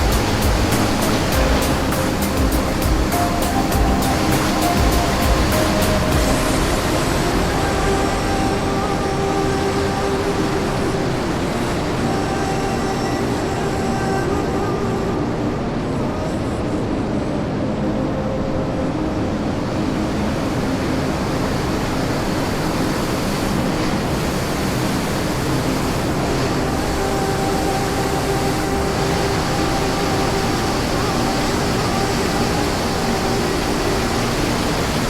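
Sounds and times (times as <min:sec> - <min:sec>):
waterfall roar: 0:00.0 - 0:35.0.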